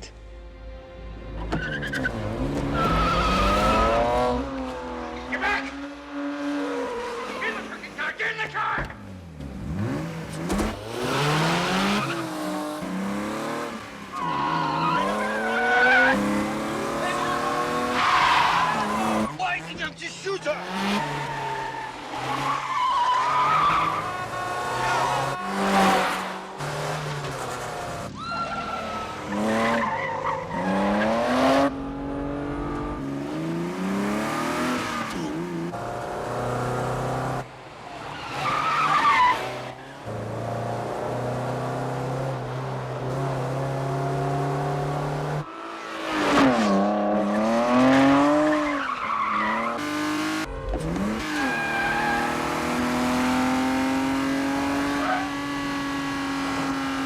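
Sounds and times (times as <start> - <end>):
tyres squealing and skidding: 1.4 - 9.1, 9.8 - 31.7, 34.0 - 35.7, 36.4 - 40.2, 45.4 - 57.0
car engines revving hard: 1.4 - 57.0.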